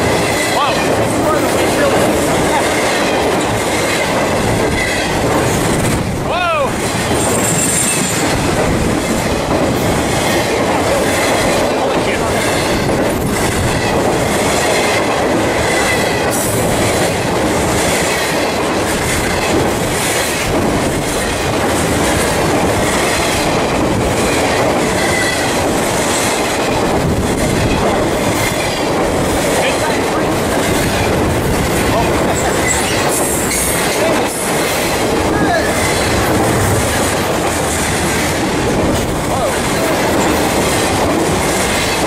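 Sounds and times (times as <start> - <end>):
freight train rumbling past: 0.0 - 42.0
wheels clacking over rail joints: 0.0 - 42.0.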